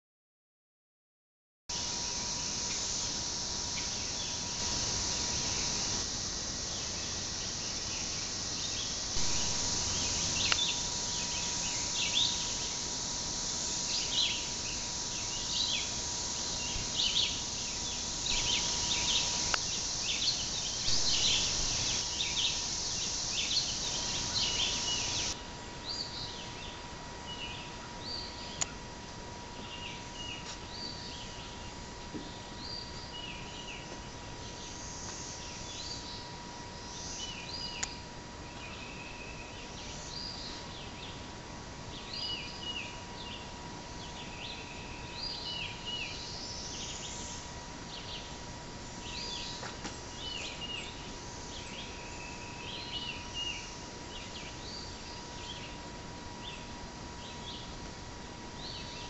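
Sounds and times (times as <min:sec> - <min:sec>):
high-pitched insect drone: 0:01.7 - 0:28.7, 0:32.6 - 0:40.8, 0:42.1 - 0:55.8.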